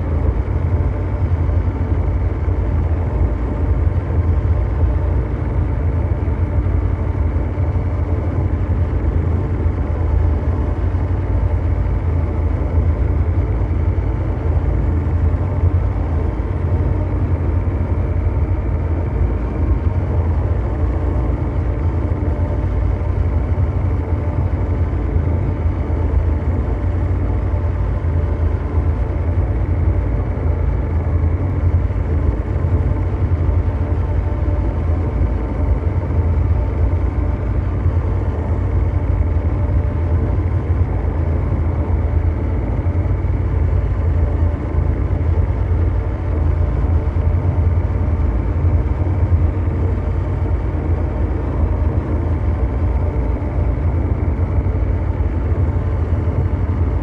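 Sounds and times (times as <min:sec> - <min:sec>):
deep mechanical drone: 0:00.0 - 0:57.0.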